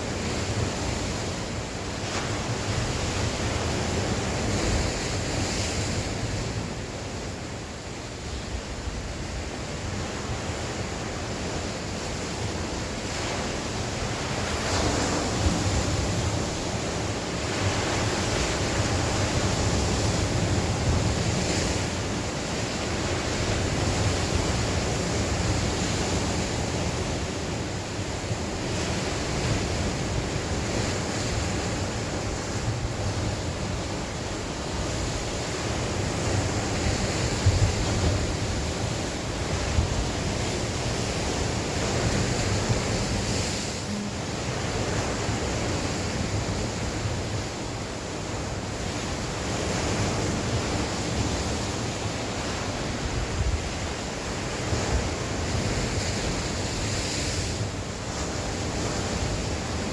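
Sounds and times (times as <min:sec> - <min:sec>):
sea waves breaking on shore: 0:00.0 - 0:59.9
wind rumbling on microphone: 0:00.0 - 0:59.9.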